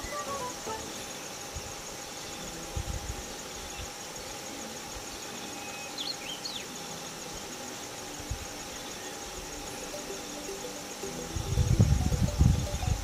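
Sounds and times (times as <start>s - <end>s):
insects chirring in grass: 0.0s - 13.0s.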